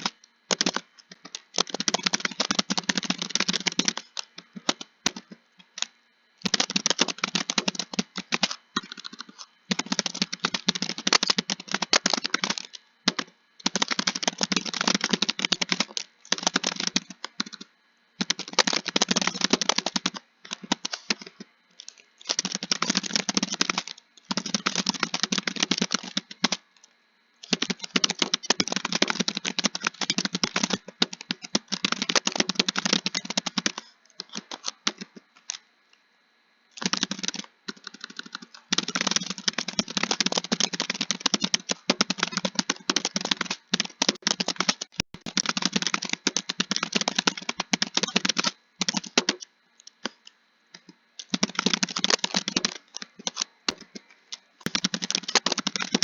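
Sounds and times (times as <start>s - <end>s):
computer keyboard typing: 0.0s - 26.6s, 27.4s - 35.7s, 36.8s - 56.0s.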